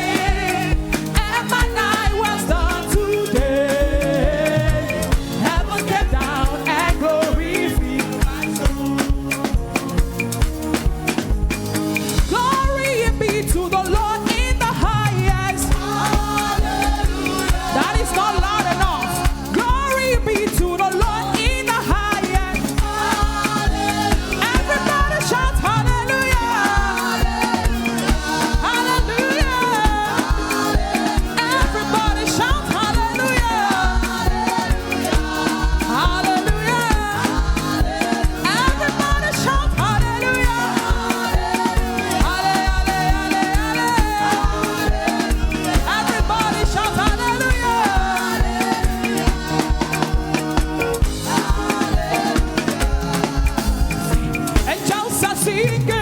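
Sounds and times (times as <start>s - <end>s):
drum beat: 0.0s - 56.0s
worship band playing: 0.0s - 56.0s.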